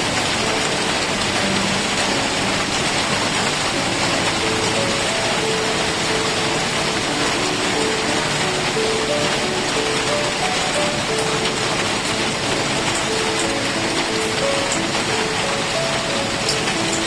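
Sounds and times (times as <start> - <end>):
slow soft background music: 0.0 - 17.0
steady rain hiss: 0.0 - 17.0.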